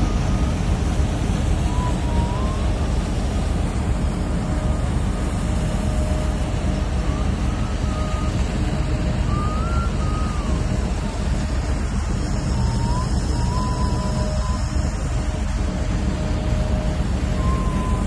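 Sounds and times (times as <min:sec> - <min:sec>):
faint wavering high tone: 0:00.0 - 0:00.7, 0:01.6 - 0:03.0, 0:04.5 - 0:18.0
ship machinery rumbling: 0:00.0 - 0:18.0
wind on deck: 0:00.0 - 0:18.0.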